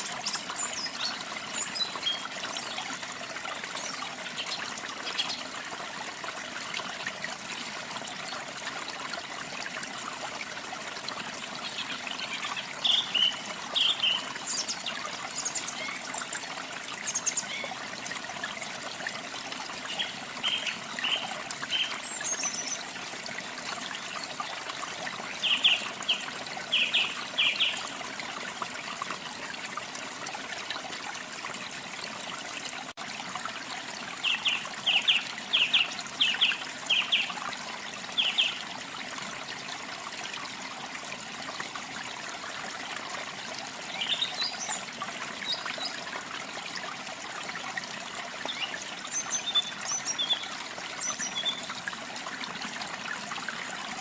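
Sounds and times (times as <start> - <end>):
trickle of running water: 0.0 - 54.0.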